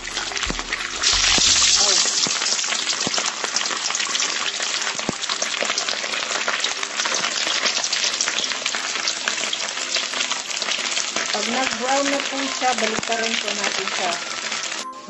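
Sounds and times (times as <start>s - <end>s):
hot oil sizzling and popping: 0.0s - 15.0s.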